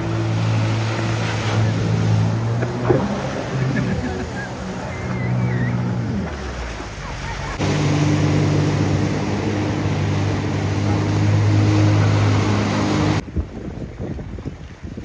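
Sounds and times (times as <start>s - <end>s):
speedboat engine drone: 0.0s - 13.2s
rushing water and wind: 0.0s - 15.0s.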